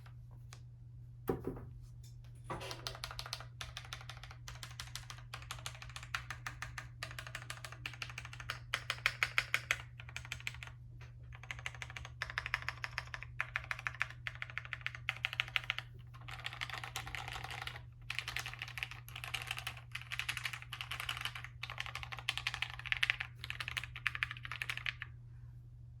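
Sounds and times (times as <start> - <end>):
mechanical keyboard typing: 2.6 - 25.1.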